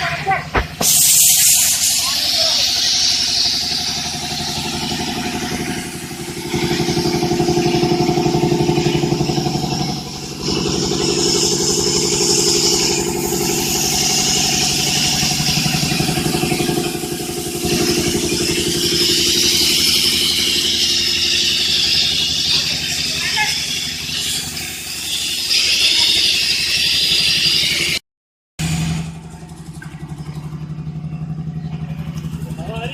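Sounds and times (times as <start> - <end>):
air compressor running: 0.0 - 28.0
high hiss: 0.6 - 27.8.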